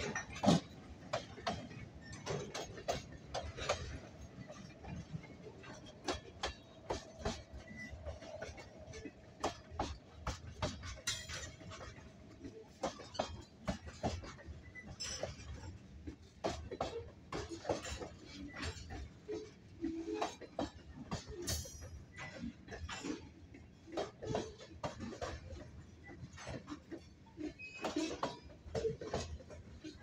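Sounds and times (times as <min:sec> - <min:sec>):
train wheels clanking on track: 0:00.0 - 0:30.0.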